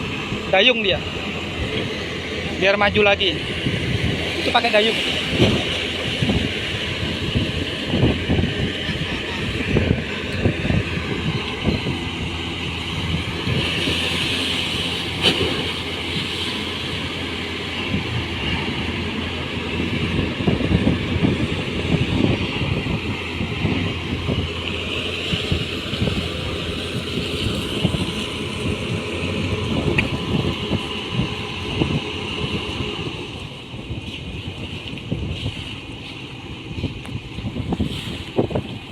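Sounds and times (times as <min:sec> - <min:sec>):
boat engine droning: 0:00.0 - 0:38.9
wind buffeting microphone: 0:00.0 - 0:38.9.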